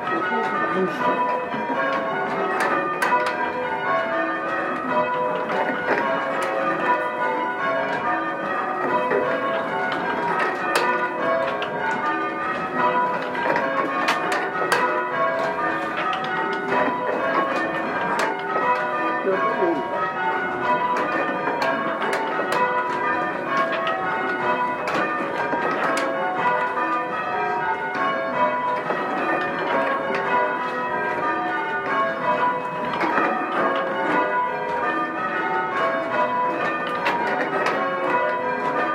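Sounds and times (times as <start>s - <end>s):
church bells ringing changes: 0.0s - 38.9s.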